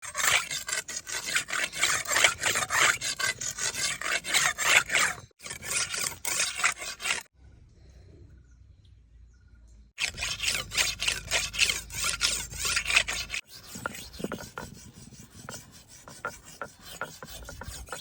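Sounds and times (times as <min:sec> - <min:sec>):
blade rasping on sandstone: 0:00.0 - 0:07.3, 0:10.0 - 0:18.0.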